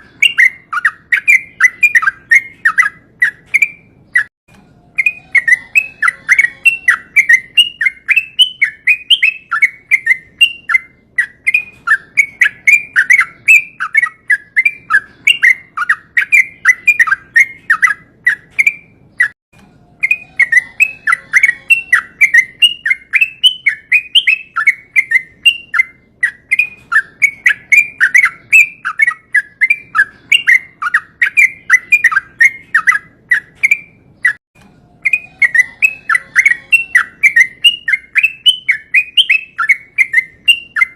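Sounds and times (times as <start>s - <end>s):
bird singing bubbling chatter: 0.0s - 4.3s, 4.9s - 34.4s, 35.0s - 40.9s.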